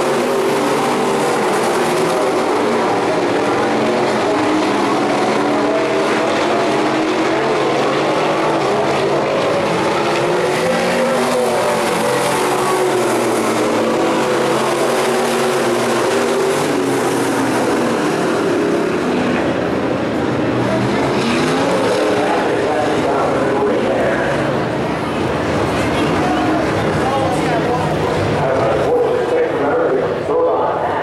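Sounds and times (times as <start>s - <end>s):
race car engines roaring: 0.0s - 31.0s.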